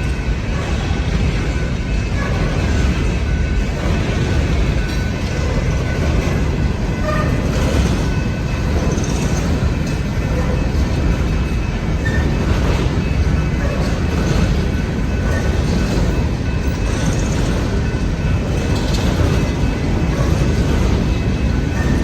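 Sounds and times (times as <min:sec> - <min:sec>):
train cars rumbling on rails: 0:00.0 - 0:22.0.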